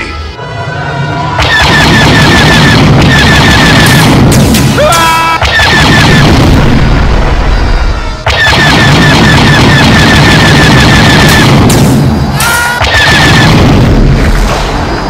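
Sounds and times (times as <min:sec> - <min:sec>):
laser blasts: 0:01.4 - 0:15.0.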